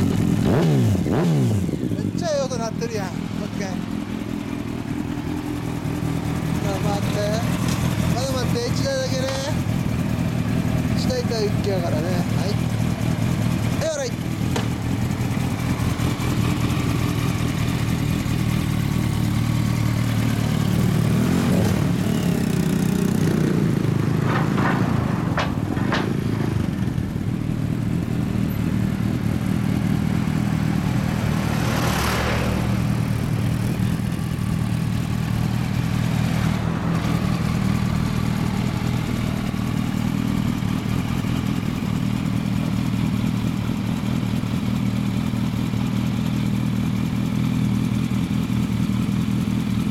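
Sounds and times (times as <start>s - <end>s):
motorcycle engine revving: 0.0s - 49.9s
motorcycle engines idling: 0.0s - 49.9s.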